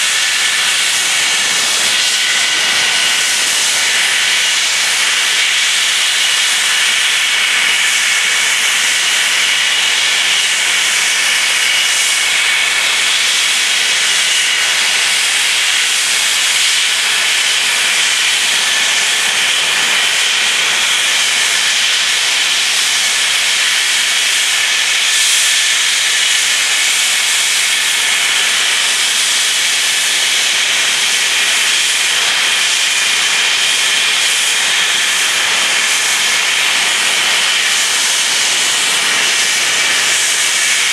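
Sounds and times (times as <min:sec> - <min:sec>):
jet engines idling: 0:00.0 - 0:40.9.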